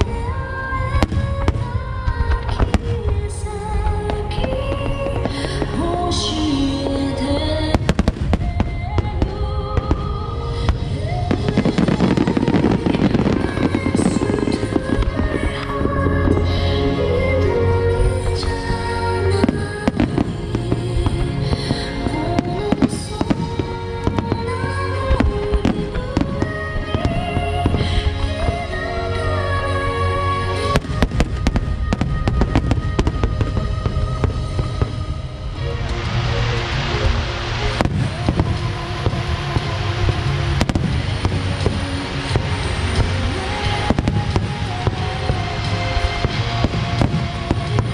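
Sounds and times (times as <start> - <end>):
firework crackling: 0.0 - 47.9
music: 0.0 - 47.9
song playing: 0.0 - 47.9.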